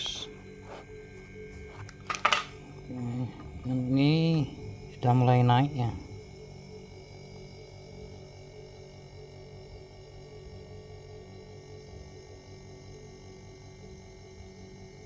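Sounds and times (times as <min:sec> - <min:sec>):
refrigerator compressor humming: 0:00.0 - 0:12.5.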